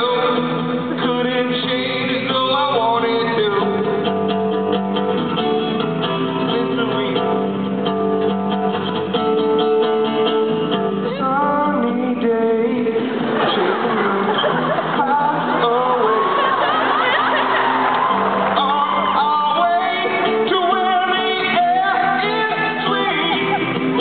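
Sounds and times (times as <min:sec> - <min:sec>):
man singing: 0:00.0 - 0:04.3, 0:05.3 - 0:08.0, 0:10.4 - 0:17.2, 0:18.4 - 0:24.0
guitar strumming: 0:00.0 - 0:24.0.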